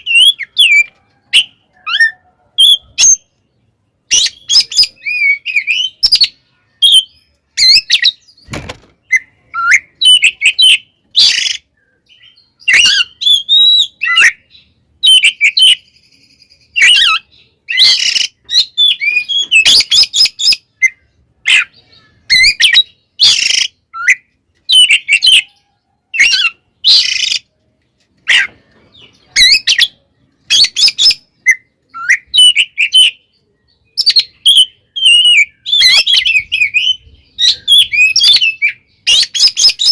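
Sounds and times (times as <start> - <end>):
bird singing whistles and chatters: 0.0 - 3.4, 4.0 - 27.6, 28.2 - 39.9.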